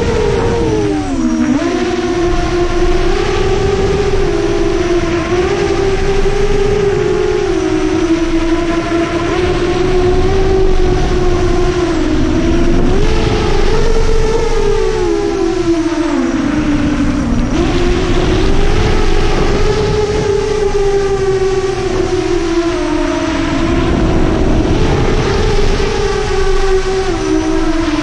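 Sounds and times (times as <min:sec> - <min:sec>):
drone motors whining: 0:00.0 - 0:28.0
wind rushing on microphone: 0:00.0 - 0:28.0.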